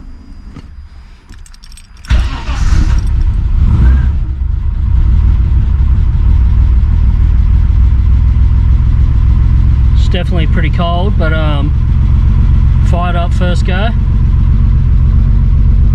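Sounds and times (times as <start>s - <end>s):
car engine starting and running: 0.0s - 15.9s.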